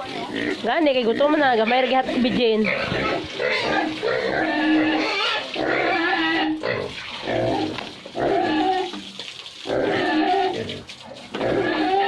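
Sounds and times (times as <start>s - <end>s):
piglets squealing and grunting: 0.0s - 9.0s, 9.6s - 12.0s.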